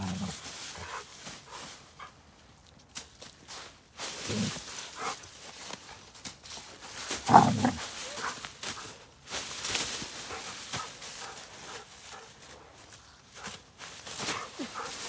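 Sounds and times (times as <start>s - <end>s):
leaves rustling and crunching: 0.0s - 15.0s.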